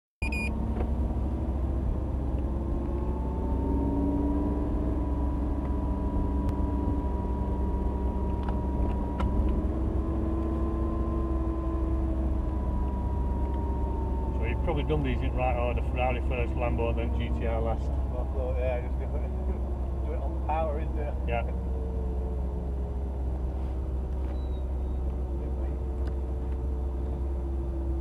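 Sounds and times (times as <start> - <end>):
car engine running: 0.2 - 28.0.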